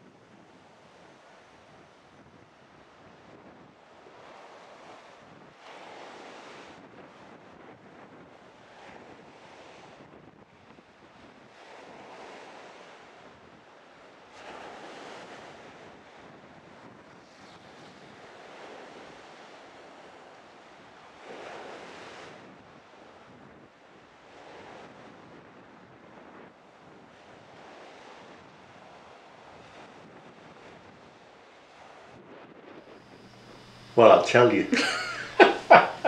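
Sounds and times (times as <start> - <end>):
waves slapping on water: 2.9 - 36.0.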